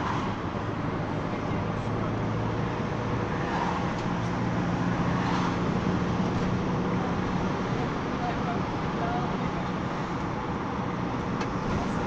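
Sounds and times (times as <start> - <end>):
minibus engine hum: 0.0 - 12.0
road noise: 0.0 - 12.0.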